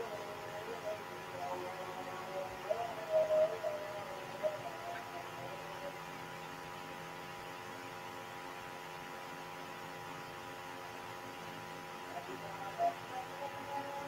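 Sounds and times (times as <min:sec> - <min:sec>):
electrical hum with tones: 0:00.0 - 0:14.0.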